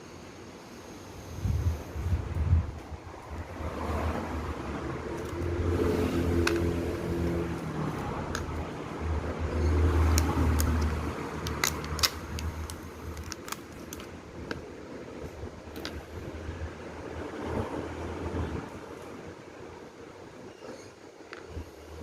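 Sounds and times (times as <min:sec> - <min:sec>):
low droning hum: 0:01.2 - 0:18.9.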